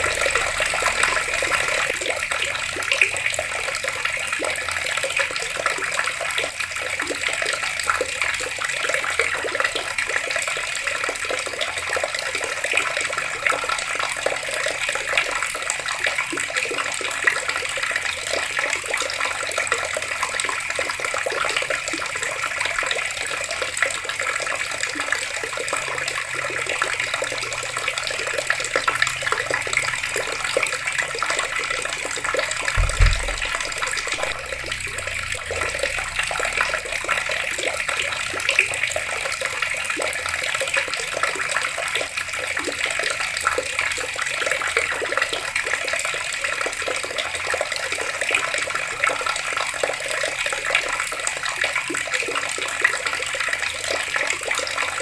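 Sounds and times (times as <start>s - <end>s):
water taps running and splashing: 0.0s - 55.0s.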